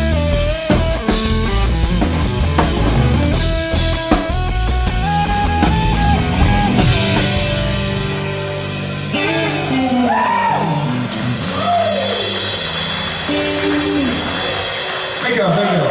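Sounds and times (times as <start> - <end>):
bass guitar: 0.0 - 15.2
drum kit: 0.0 - 15.9
electric guitar: 0.0 - 15.9.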